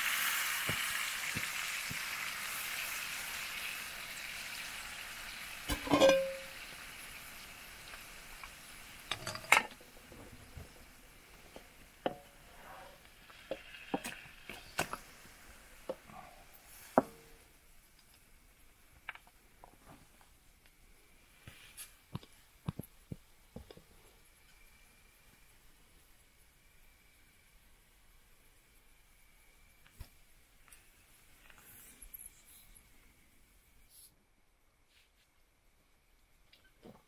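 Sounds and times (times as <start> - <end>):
faint hiss: 0.0 - 37.0.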